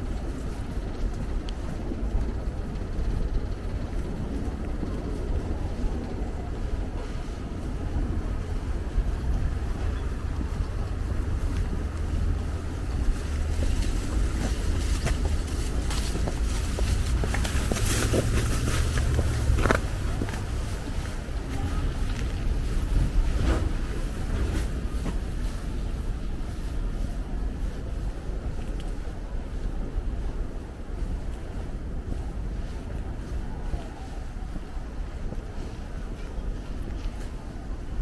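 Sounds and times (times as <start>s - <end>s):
outdoor street ambience: 0.0s - 38.0s
wind buffeting microphone: 0.0s - 38.0s.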